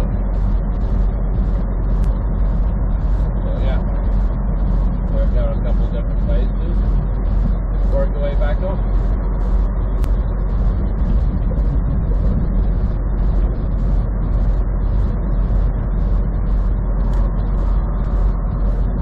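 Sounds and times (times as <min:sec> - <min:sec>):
vehicle road and engine noise: 0:00.0 - 0:19.0.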